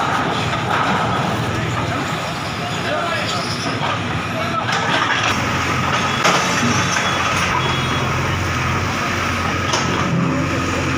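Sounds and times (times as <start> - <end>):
bulldozer engine running: 0.0 - 10.9.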